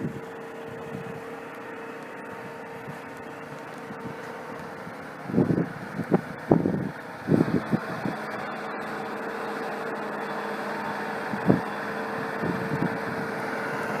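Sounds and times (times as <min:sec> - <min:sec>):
car engine hum: 0:00.0 - 0:14.0.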